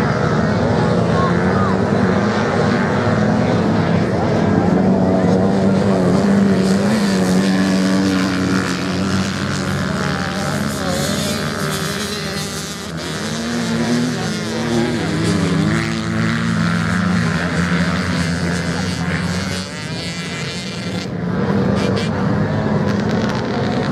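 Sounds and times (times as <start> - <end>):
dirt bike engines revving: 0.0 - 23.9.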